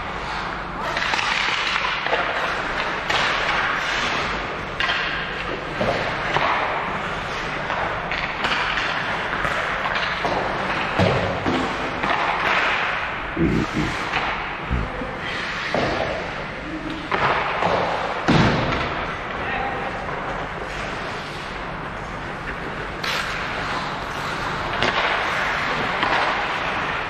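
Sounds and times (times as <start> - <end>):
noisy background: 0.0 - 27.0.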